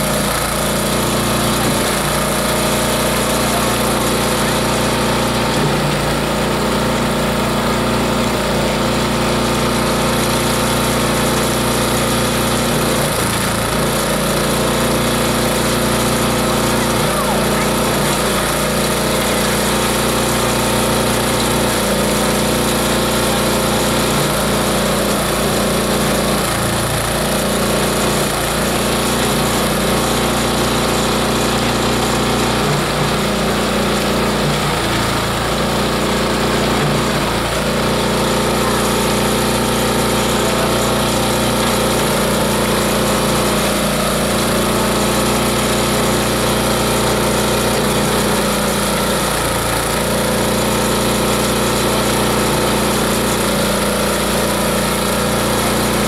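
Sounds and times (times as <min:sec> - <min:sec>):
shredder humming: 0:00.0 - 0:56.0.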